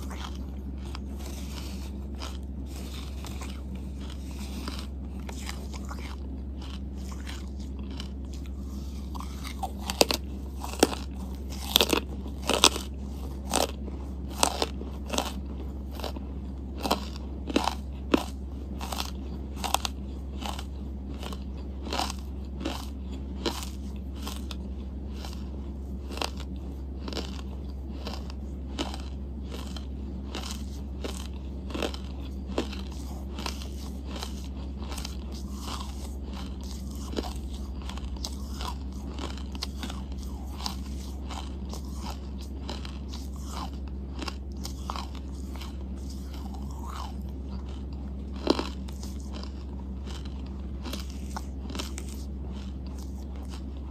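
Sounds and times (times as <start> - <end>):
crunchy chewing: 0.0 - 53.9
steady low hum: 0.0 - 53.9.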